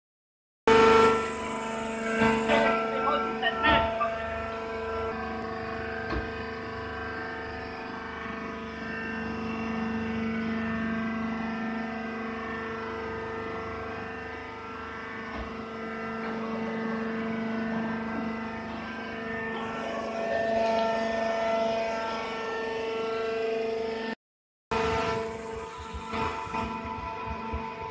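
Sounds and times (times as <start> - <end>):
hydraulic pump motor drone: 0.7 - 27.9.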